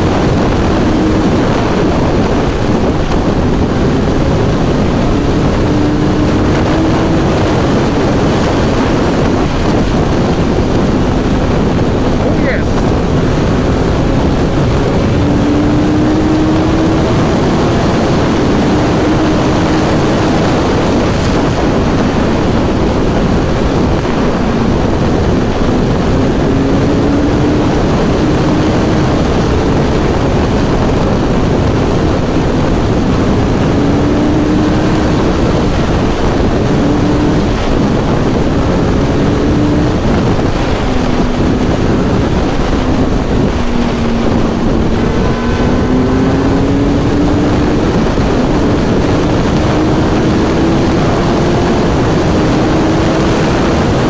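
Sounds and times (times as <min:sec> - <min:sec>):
motorcycle engine cruising: 0:00.0 - 0:54.0
wind rush on microphone: 0:00.0 - 0:54.0.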